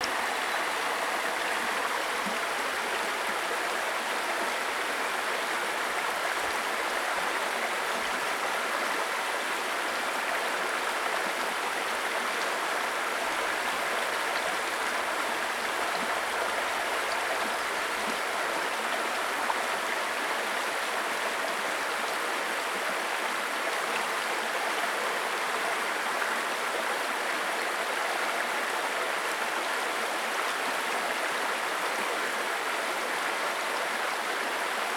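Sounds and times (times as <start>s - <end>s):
stream burbling over stones: 0.0s - 34.9s.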